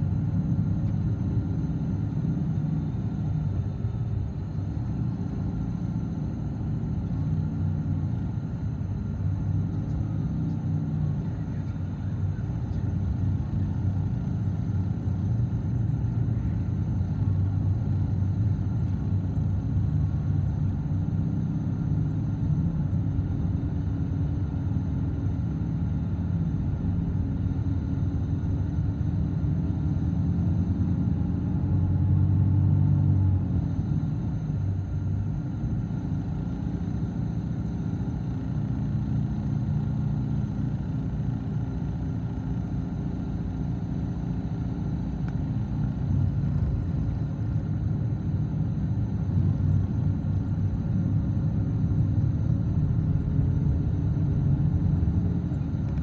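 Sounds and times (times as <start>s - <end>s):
vehicle road rumble: 0.0s - 56.0s.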